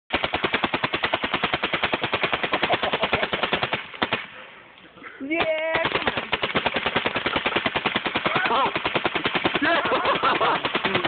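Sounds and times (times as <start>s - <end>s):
paintball gun firing rapidly: 0.1s - 4.3s, 5.4s - 11.0s.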